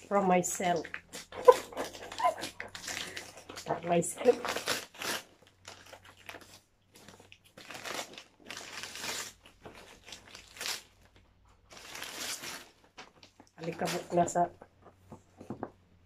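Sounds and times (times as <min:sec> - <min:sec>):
wrapping paper rustling: 0:00.0 - 0:15.8.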